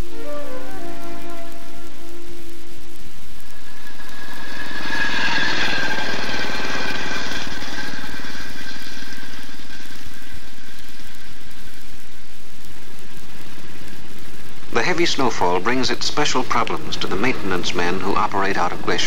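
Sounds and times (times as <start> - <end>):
high whine: 0.0 - 19.0.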